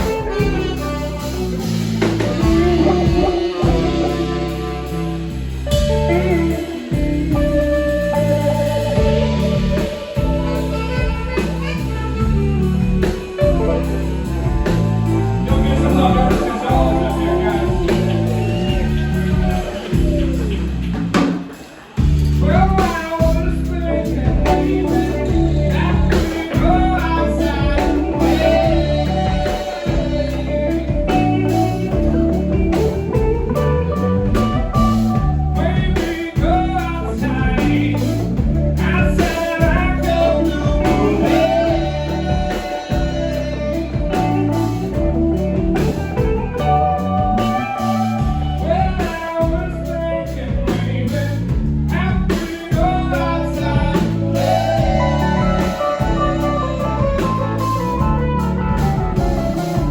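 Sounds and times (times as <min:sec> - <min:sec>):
person singing: 0:00.0 - 0:21.0, 0:21.6 - 0:59.9
steady bass line: 0:00.0 - 0:21.3, 0:21.9 - 0:59.9
guitar: 0:00.0 - 0:59.9.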